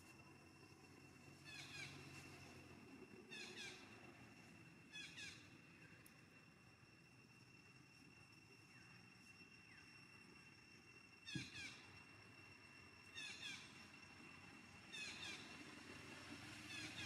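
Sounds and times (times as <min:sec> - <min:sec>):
faint steady high tone: 0:00.0 - 0:17.0.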